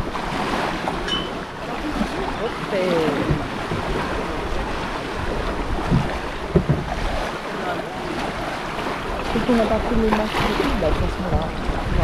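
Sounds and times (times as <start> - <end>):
lagoon water washing: 0.0 - 12.0
wind buffeting microphone: 0.0 - 12.0.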